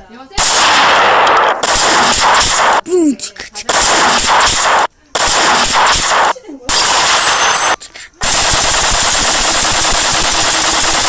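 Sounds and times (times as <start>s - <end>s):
automatic gunfire bursts: 0.4s - 2.8s, 3.7s - 11.0s.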